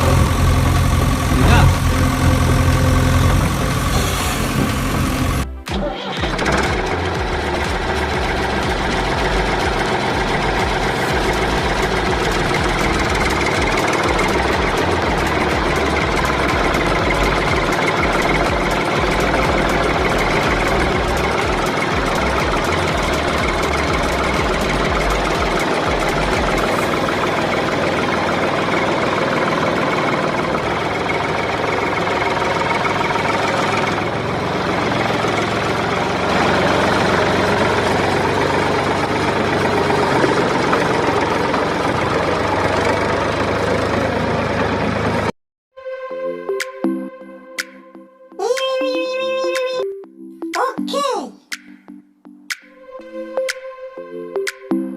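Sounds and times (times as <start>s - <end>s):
engine idling with knocking: 0.0s - 45.3s.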